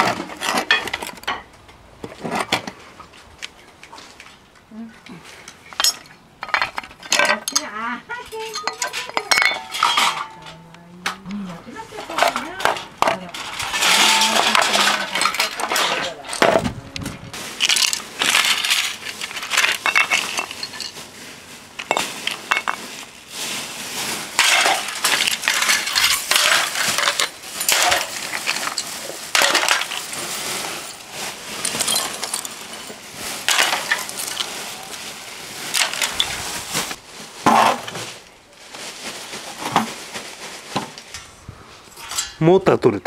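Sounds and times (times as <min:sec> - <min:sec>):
plastic and metal parts clattering: 0:00.0 - 0:04.4, 0:05.4 - 0:10.6, 0:11.7 - 0:41.2.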